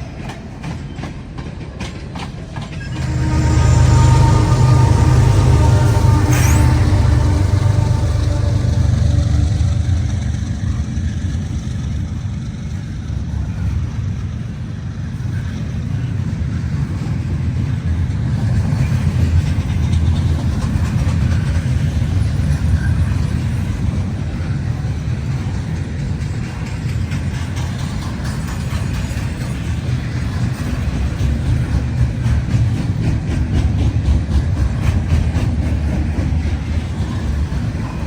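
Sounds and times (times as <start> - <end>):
freight train rumbling on rails: 0.0 - 38.0.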